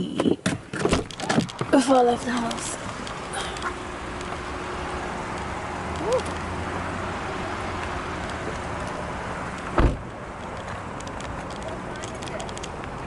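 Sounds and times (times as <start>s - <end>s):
parking lot background noise: 0.0s - 13.0s.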